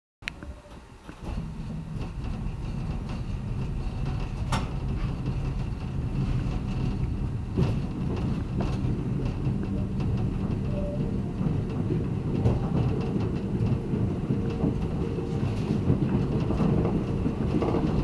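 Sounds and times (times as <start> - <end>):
electric train motor hum: 0.4 - 18.0
wheels clicking over rails: 0.7 - 18.0.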